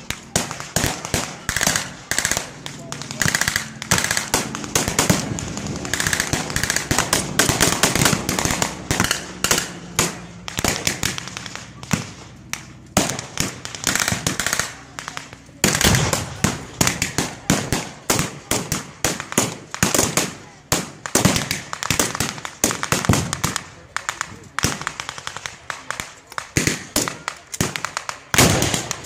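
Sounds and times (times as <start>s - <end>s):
rifles firing blanks: 0.0s - 29.0s.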